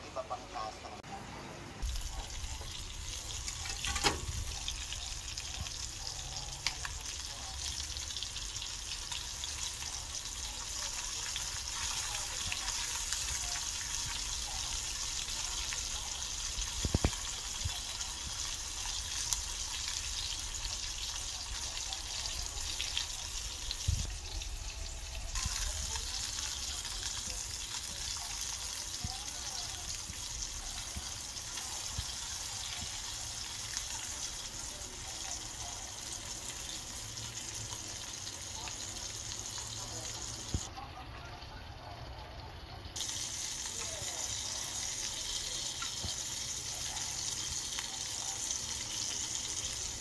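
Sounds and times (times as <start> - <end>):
shrimp sizzling in oil: 1.8 - 50.0.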